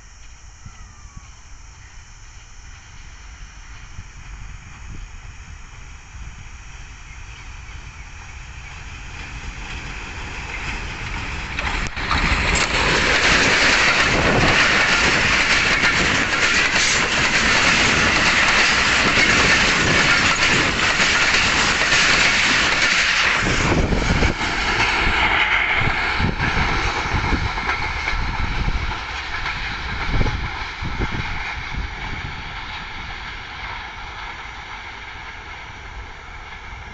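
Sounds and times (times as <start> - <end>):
train rushing and clattering: 0.0 - 36.9.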